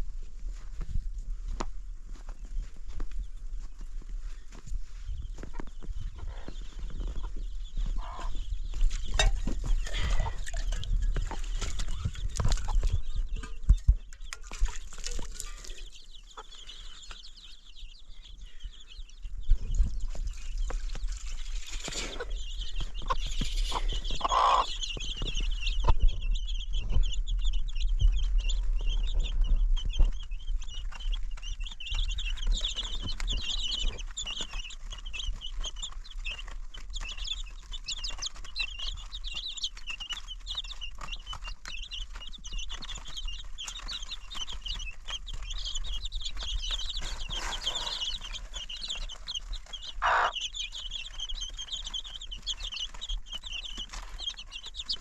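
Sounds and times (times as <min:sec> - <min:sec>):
chickens clucking: 0:01.5 - 0:55.0.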